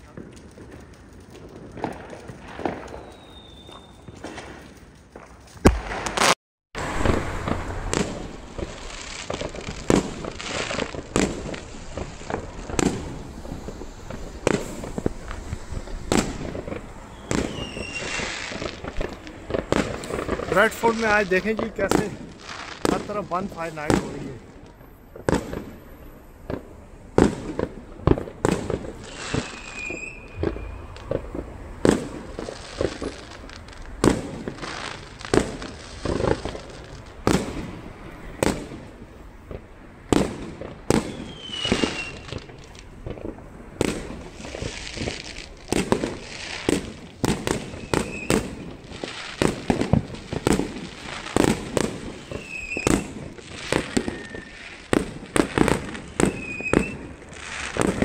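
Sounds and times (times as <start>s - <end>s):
fireworks banging: 0.0s - 58.0s
rockets whistling: 2.3s - 4.6s, 5.6s - 23.0s, 28.4s - 38.9s, 40.1s - 42.8s, 43.8s - 58.0s.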